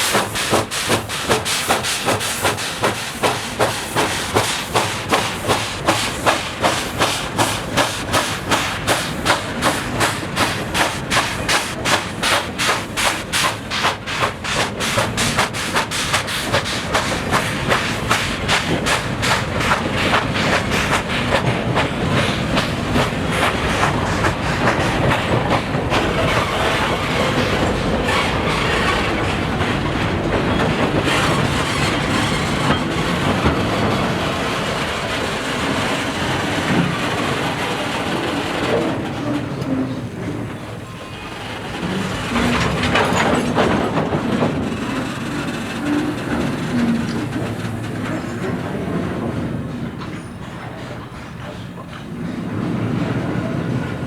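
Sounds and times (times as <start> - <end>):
steam locomotive chuffing: 0.0 - 54.0
wagons rumbling on rails: 0.0 - 54.0.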